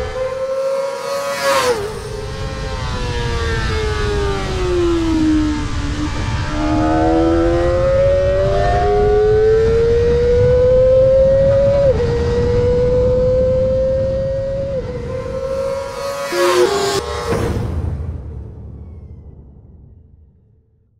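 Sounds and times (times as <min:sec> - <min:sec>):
motorcycle engine high revs wail: 0:00.0 - 0:17.4.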